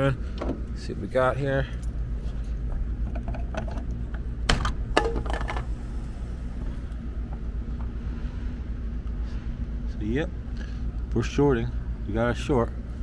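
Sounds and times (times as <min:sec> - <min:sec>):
faint hum: 0:00.0 - 0:13.0
steady low rumble: 0:00.0 - 0:13.0.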